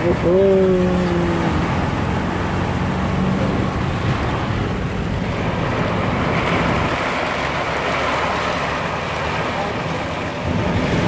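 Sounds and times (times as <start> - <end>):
engine and road rumble: 0.0 - 11.0
water spraying against car: 0.0 - 11.0.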